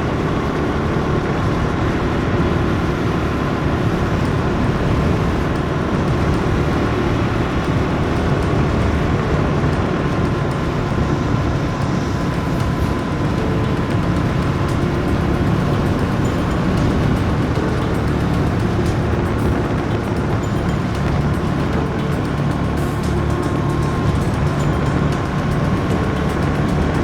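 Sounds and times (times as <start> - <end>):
motorcycle engine running: 0.0 - 27.0
road noise: 0.0 - 27.0
wind on microphone: 0.0 - 27.0.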